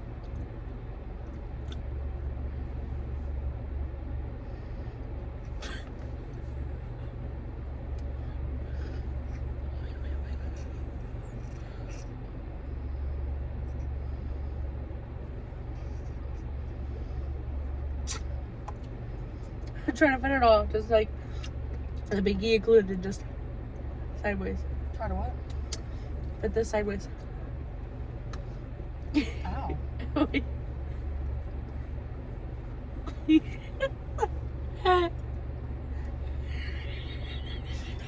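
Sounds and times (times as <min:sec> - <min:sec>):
car interior rumble: 0:00.0 - 0:38.0.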